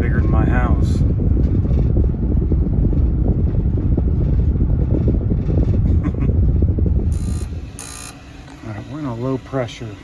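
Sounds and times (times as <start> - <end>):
wind on microphone: 0.0 - 8.4
vehicle engine and road noise: 0.0 - 10.0.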